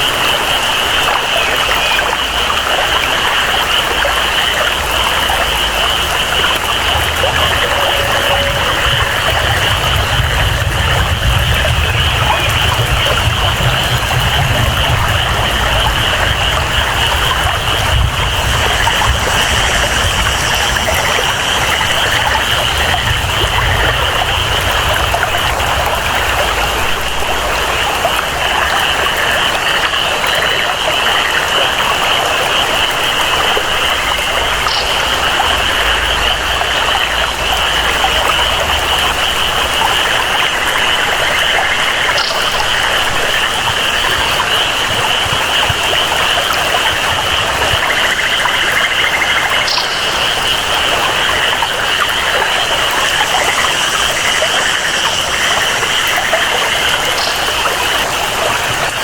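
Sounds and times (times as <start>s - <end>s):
flowing water rumble: 0.0s - 59.0s
steady rain: 0.0s - 59.0s
animals calling: 0.1s - 27.8s, 32.6s - 59.0s.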